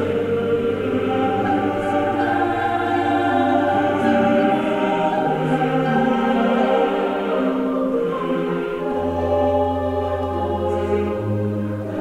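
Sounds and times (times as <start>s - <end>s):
choir singing long chords: 0.0s - 12.0s.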